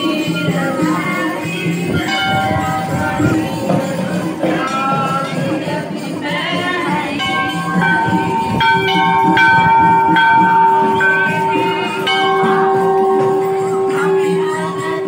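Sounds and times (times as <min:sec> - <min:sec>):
brass bells ringing: 0:00.0 - 0:15.0.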